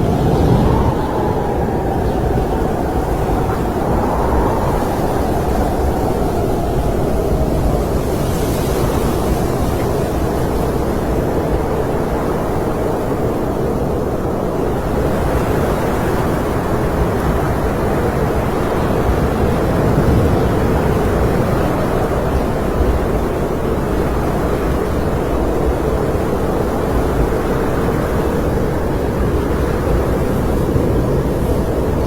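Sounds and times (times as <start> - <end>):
snowstorm wind blowing: 0.0 - 32.0.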